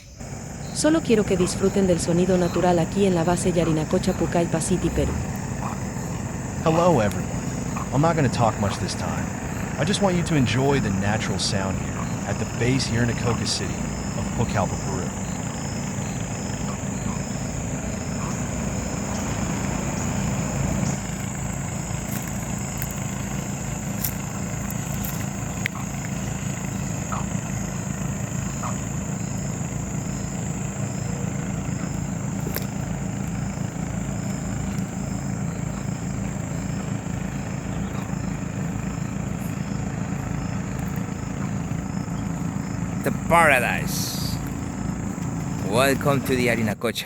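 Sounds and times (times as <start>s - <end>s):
small engine pulsing: 0.0s - 47.0s.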